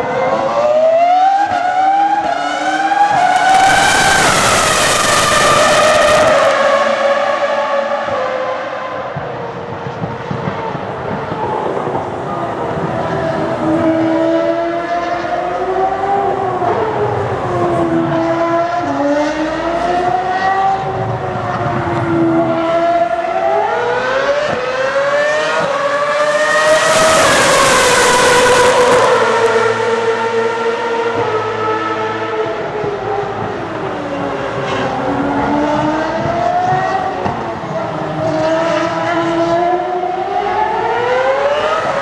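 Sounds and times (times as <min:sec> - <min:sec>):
racing car engine revving: 0:00.0 - 0:42.0.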